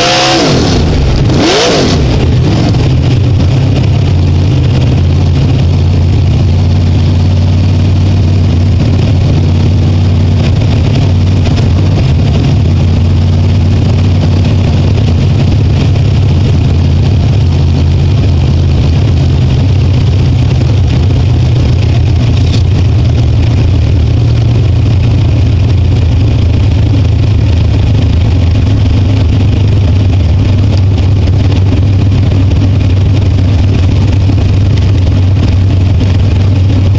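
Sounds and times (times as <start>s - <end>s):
race car engine droning: 0.0s - 36.9s.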